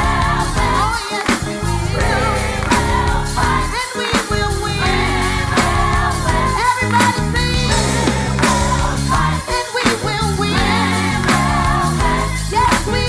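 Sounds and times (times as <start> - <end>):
drum hits: 0.0 - 12.9
bass line: 0.0 - 13.0
lead singer and choir singing: 0.0 - 13.0.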